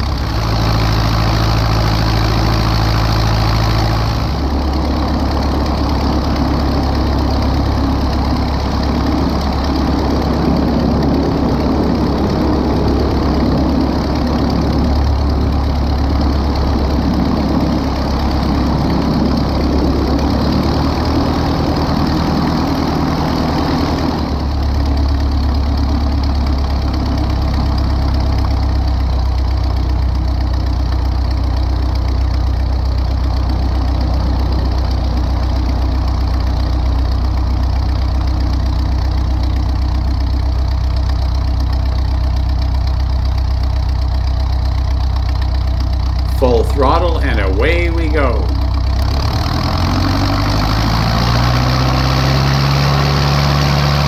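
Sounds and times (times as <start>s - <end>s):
light aircraft engine droning: 0.0s - 49.2s.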